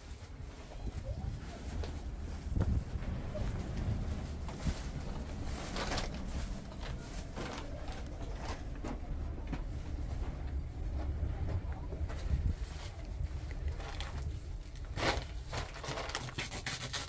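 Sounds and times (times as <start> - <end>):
wind rumble on microphone: 0.0 - 16.6.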